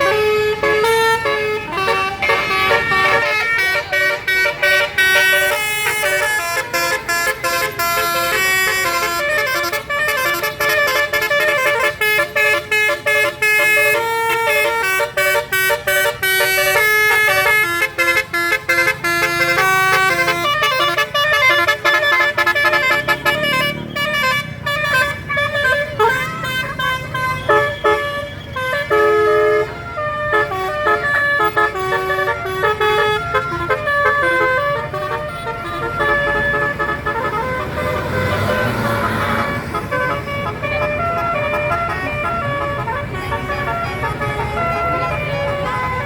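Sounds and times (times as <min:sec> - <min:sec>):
bus engine rumble: 0:00.0 - 0:46.0
musical bus horn: 0:00.0 - 0:46.0.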